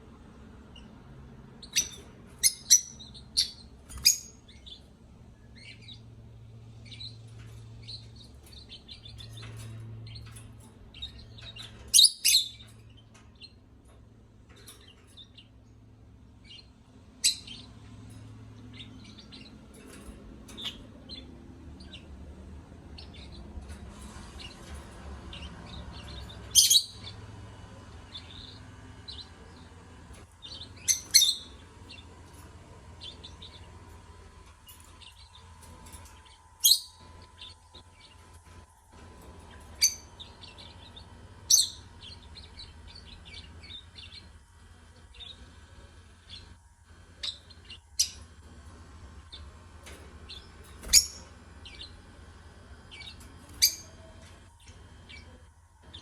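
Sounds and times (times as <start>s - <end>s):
birds chirping softly: 0.0s - 56.0s.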